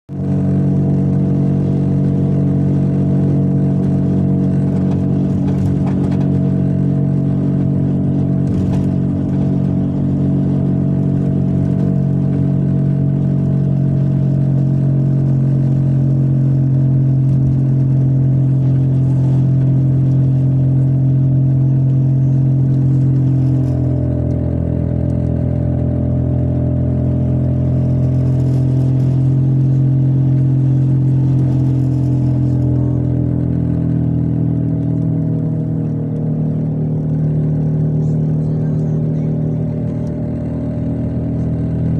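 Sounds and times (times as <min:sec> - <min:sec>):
car wheel bearing droning hum: 0:00.1 - 0:41.9.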